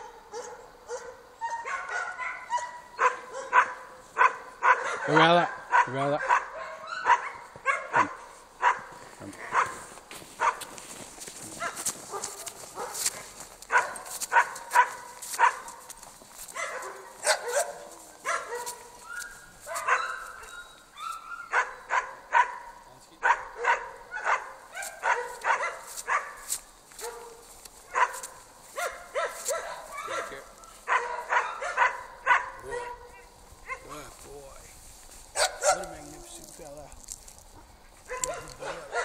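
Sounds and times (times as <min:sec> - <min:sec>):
dogs barking: 0:00.0 - 0:10.8, 0:11.4 - 0:34.1, 0:35.3 - 0:36.5, 0:37.5 - 0:39.0.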